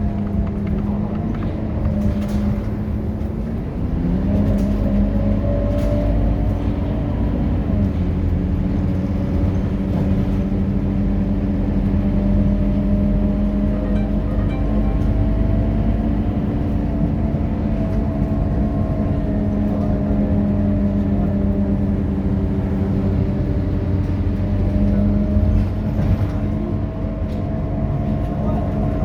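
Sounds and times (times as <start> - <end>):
bus diesel engine running: 0.0 - 29.0.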